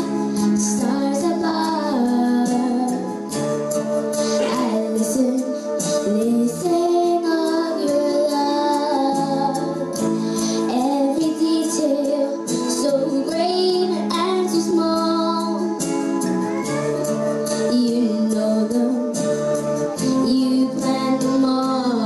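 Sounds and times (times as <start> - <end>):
woman singing: 0.0 - 3.4, 4.2 - 22.0
musical accompaniment: 0.0 - 22.0.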